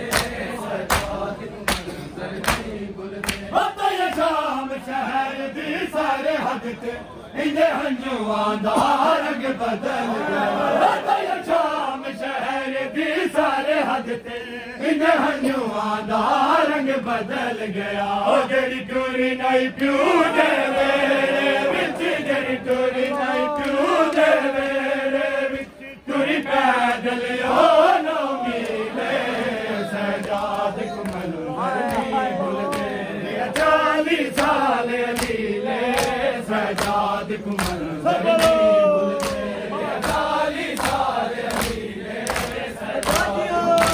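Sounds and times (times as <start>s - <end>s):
men chanting a lament: 0.0s - 43.9s.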